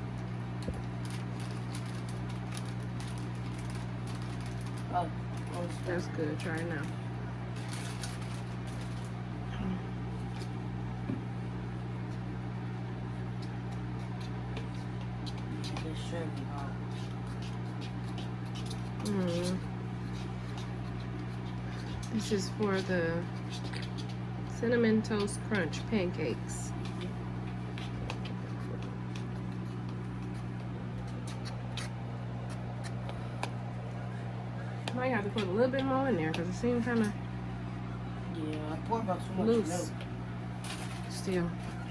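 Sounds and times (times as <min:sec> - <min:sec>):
kitchen appliance humming: 0:00.0 - 0:41.9.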